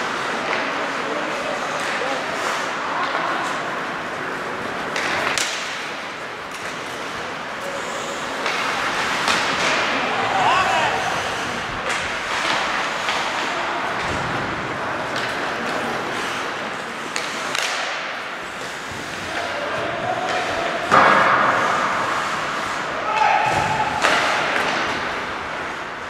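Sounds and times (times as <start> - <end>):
crowd hubbub: 0.0 - 26.0
hockey sticks and puck clacking: 0.0 - 26.0.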